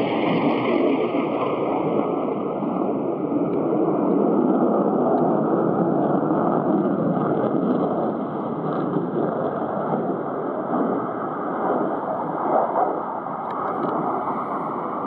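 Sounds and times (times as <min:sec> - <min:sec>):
fighter jet engines rushing: 0:00.0 - 0:15.0.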